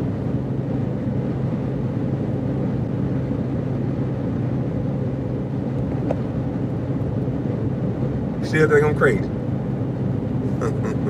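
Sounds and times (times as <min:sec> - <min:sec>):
road rumble: 0:00.0 - 0:11.0.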